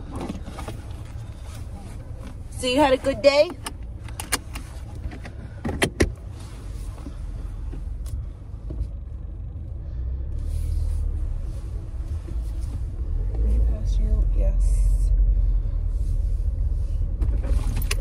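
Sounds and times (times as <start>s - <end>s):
car cabin rumble while driving: 0.0s - 18.0s.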